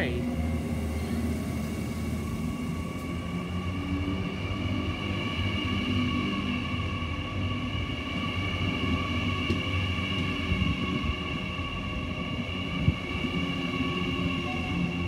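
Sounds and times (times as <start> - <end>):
electric train passing: 0.0 - 15.0
high-pitched train whine: 0.0 - 15.0.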